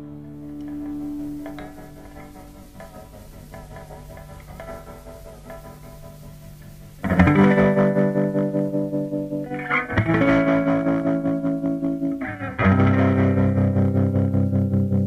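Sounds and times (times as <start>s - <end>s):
distorted electric guitar chords: 0.0s - 15.0s
effects-laden guitar passage: 0.0s - 15.0s.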